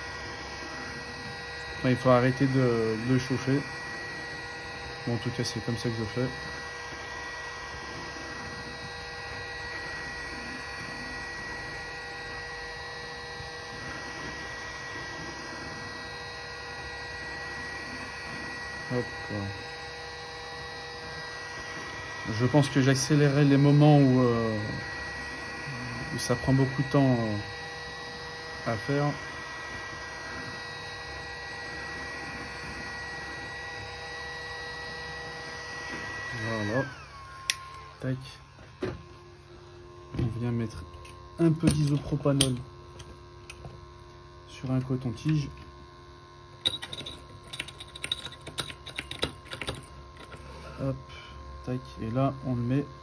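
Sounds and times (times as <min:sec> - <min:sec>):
electrical hum and hiss: 0:00.0 - 0:53.0
heat gun blowing with whine: 0:00.0 - 0:53.0.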